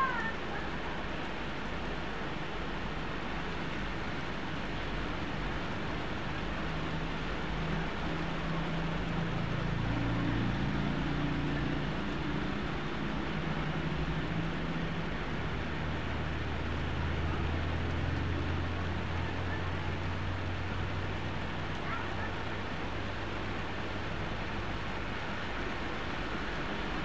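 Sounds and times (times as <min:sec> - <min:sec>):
heavy rain on a vehicle: 0:00.0 - 0:27.0
vehicle engines humming: 0:00.0 - 0:27.0.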